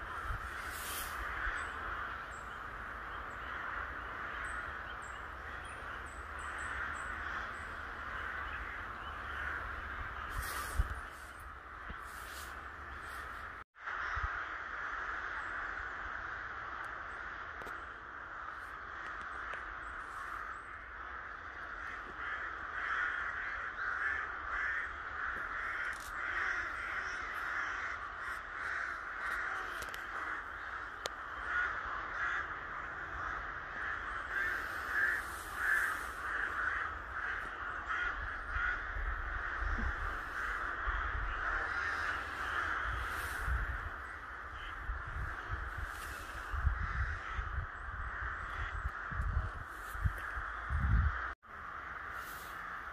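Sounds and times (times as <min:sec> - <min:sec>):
crows cawing: 0:00.0 - 0:52.9.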